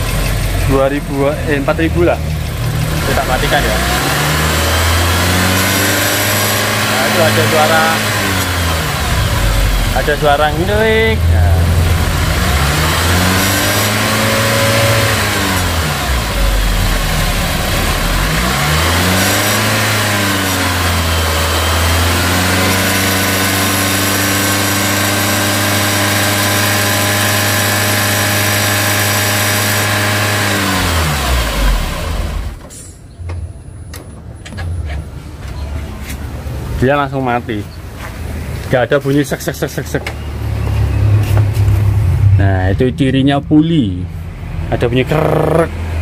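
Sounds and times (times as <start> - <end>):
car engine revving: 0.0 - 32.7, 37.4 - 46.0
engine winding down: 0.0 - 32.8, 39.7 - 46.0.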